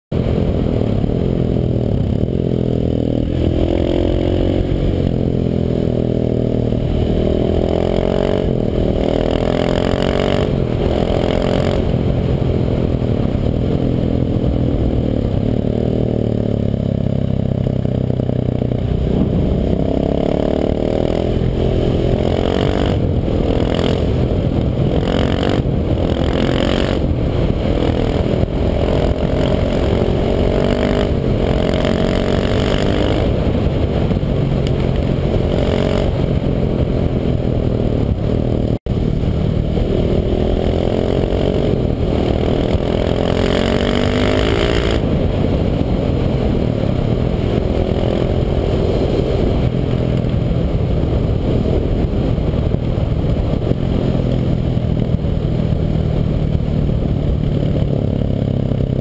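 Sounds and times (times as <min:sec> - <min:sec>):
motorcycle engine revving: 0:00.1 - 0:59.0.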